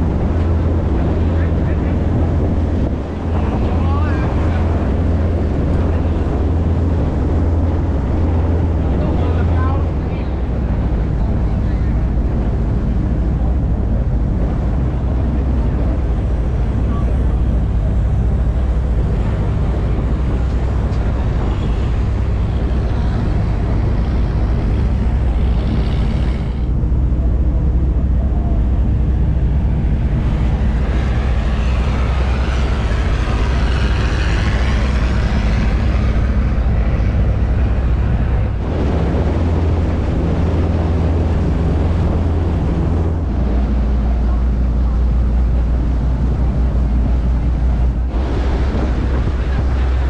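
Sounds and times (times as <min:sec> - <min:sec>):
boat engine droning: 0:00.0 - 0:50.0
rushing water: 0:00.0 - 0:50.0
wind on microphone: 0:00.0 - 0:50.0.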